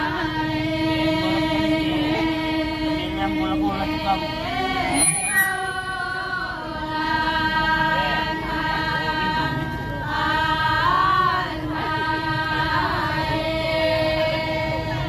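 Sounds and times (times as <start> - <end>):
women singing a chant together: 0.0 - 15.0.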